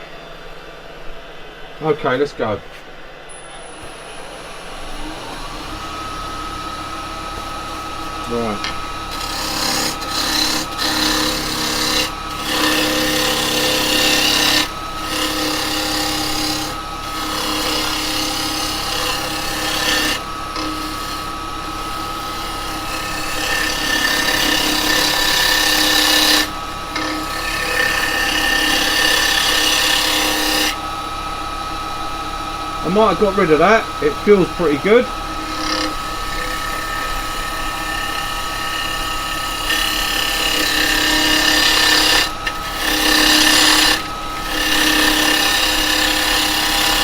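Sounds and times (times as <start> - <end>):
lathe motor hum: 0.0 - 47.0
chisel scraping spinning wood: 3.8 - 47.0.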